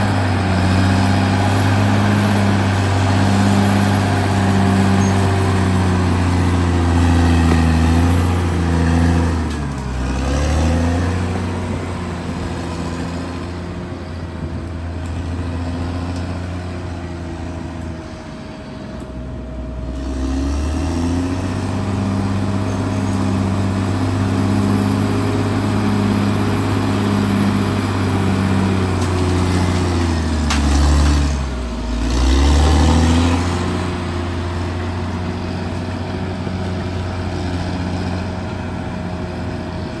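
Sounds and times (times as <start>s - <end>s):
bulldozer diesel engine working: 0.0s - 40.0s.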